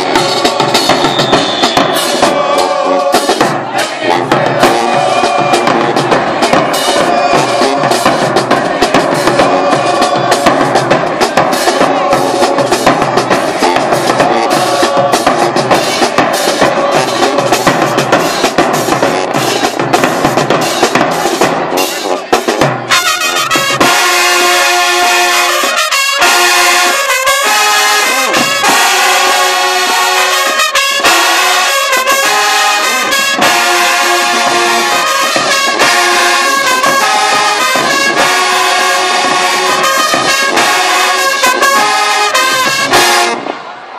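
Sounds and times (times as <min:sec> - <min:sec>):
brass section hits: 0:00.0 - 0:43.9
marching drums and cymbals: 0:00.0 - 0:43.9.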